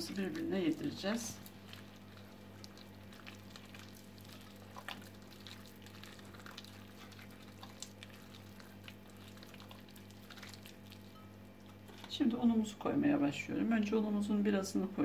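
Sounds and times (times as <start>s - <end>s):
soft squishing by hand: 0.0s - 12.2s
steady low hum: 0.0s - 15.0s.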